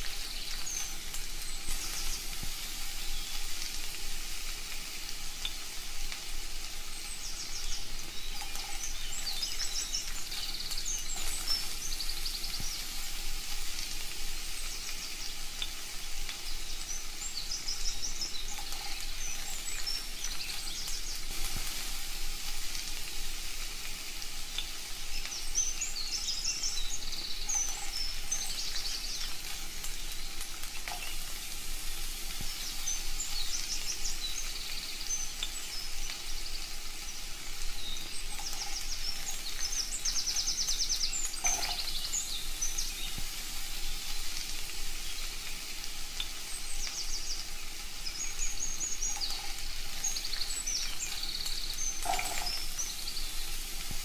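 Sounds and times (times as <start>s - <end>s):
food sizzling in a pan: 0.0s - 54.0s
birds chirping: 4.9s - 23.0s, 24.4s - 45.6s, 46.2s - 54.0s.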